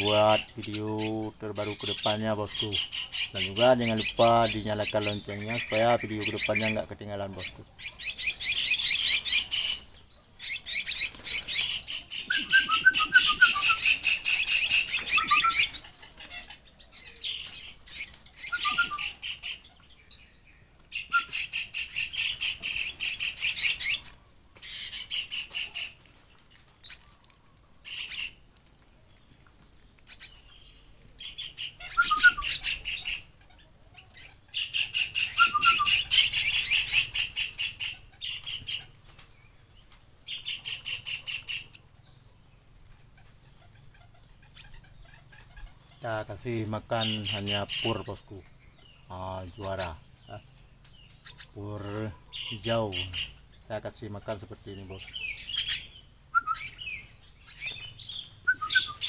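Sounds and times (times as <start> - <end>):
young birds begging calls: 0.0 - 59.0.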